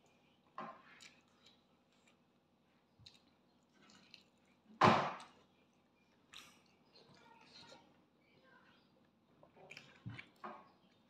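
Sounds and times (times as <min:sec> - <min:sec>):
person chewing food: 0:00.0 - 0:07.7, 0:09.4 - 0:11.0.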